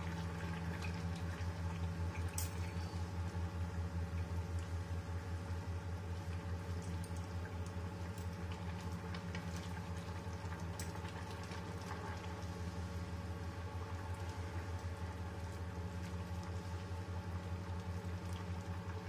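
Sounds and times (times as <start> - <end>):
low electrical hum: 0.0 - 19.0
stew simmering: 0.0 - 19.0.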